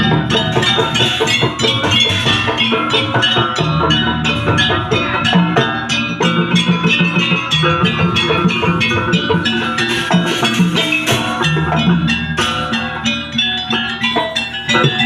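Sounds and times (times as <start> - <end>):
drums: 0.0 - 15.0
gamelan metallophones ringing: 0.0 - 15.0.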